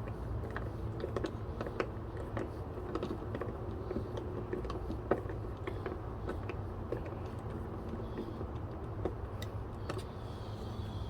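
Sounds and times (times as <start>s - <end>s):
light clicks and taps of tools: 0.0s - 10.2s.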